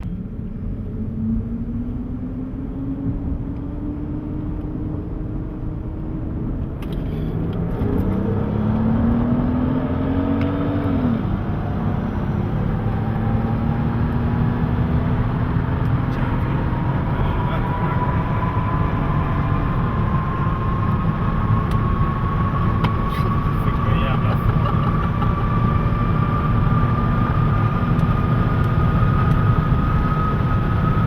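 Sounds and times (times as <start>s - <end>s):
car engines running under load: 0.0s - 31.0s.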